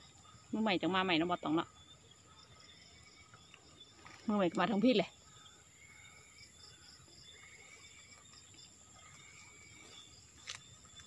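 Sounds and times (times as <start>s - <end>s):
faint distant calls: 0.0s - 11.0s
insects chirping: 0.0s - 11.0s.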